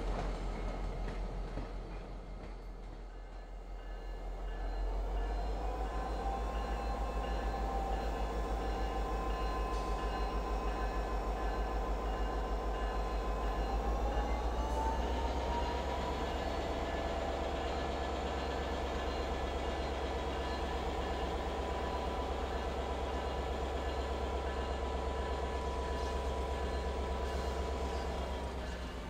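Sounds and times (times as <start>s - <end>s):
diesel locomotive engines humming: 0.0s - 29.0s
train rolling by: 0.0s - 29.0s.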